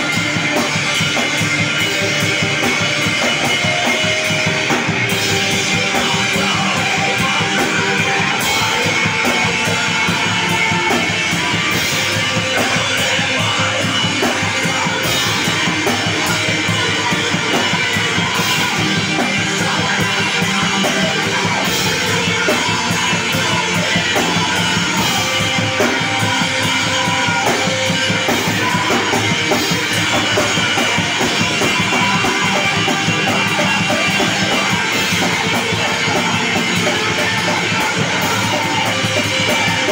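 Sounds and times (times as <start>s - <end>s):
bass guitar: 0.0s - 39.9s
distorted electric guitars: 0.0s - 39.9s
drum kit pounding fast beat: 0.0s - 39.9s.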